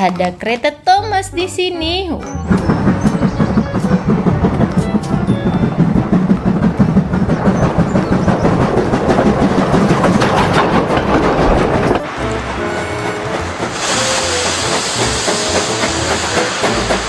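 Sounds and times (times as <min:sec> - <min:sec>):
steady tones: 0:00.0 - 0:17.0
steam train chugging and clattering: 0:00.0 - 0:17.0.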